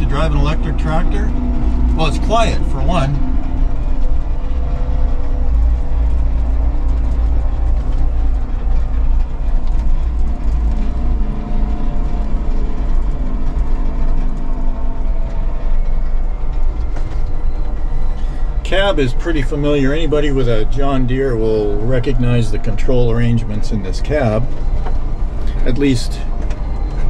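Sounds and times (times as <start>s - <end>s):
tractor cab rumble: 0.0s - 27.0s.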